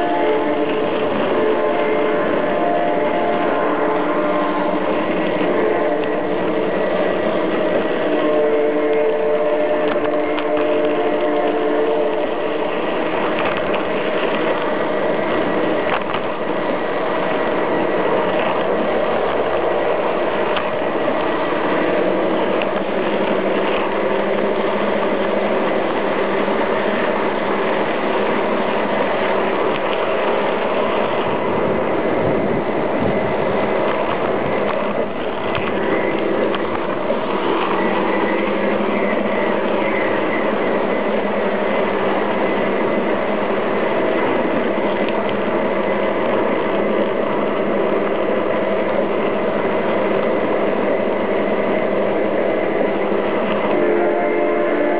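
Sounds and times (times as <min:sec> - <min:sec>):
model train whirring on rails: 0:00.0 - 0:54.9.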